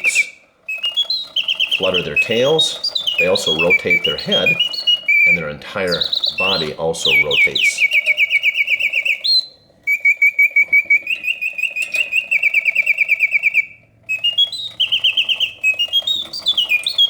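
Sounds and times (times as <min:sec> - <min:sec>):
mechanical bird whistle chirping trills: 0:00.0 - 0:17.0.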